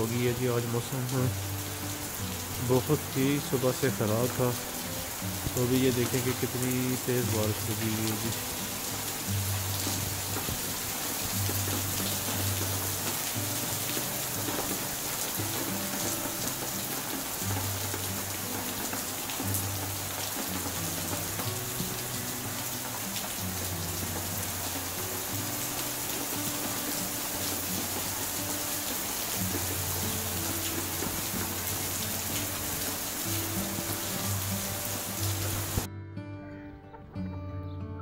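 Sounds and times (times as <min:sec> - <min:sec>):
heavy rain on concrete: 0:00.0 - 0:35.9
background music: 0:00.0 - 0:38.0.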